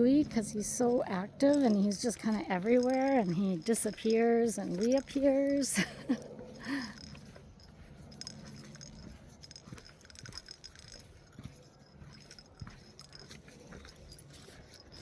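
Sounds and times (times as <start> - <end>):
light jingling: 0.0 - 15.0.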